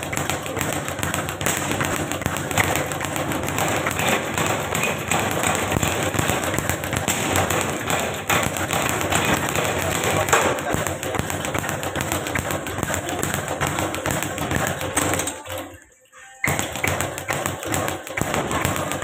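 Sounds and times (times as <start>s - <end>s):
speed bag rattling: 0.0s - 15.8s, 16.5s - 19.0s.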